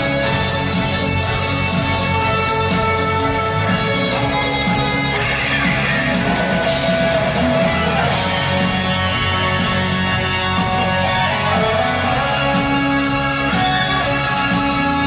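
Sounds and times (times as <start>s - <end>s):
rock band guitars: 0.0s - 15.0s
symphony orchestra playing: 0.0s - 15.0s.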